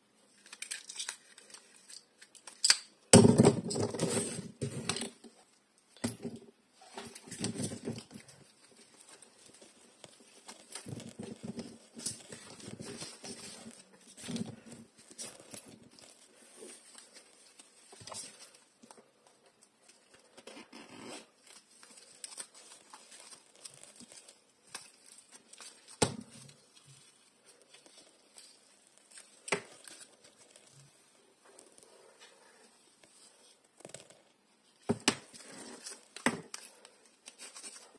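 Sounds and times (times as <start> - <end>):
rustling and crinkling: 0.2 - 37.9.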